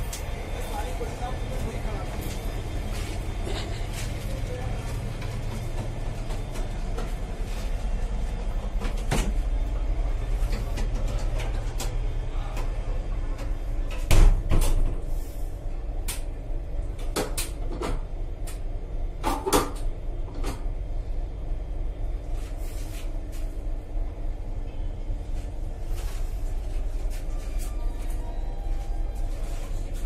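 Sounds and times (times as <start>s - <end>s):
train coach rumble: 0.0s - 30.0s.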